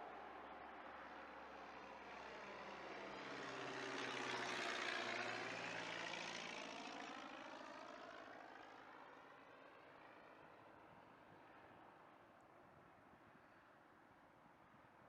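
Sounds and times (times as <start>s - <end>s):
propeller airplane flying past: 0.1s - 12.2s.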